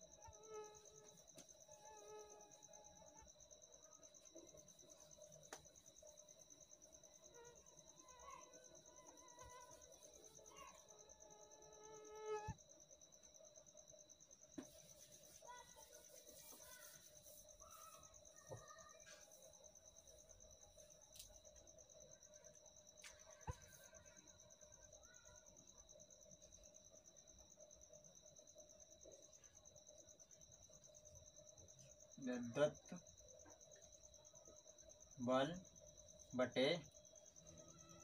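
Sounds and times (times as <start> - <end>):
high insect trill: 0.0 - 38.0.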